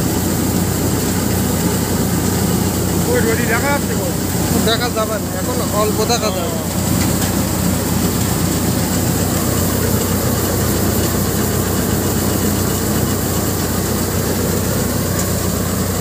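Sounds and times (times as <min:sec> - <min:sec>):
threshing machine droning: 0:00.0 - 0:16.0.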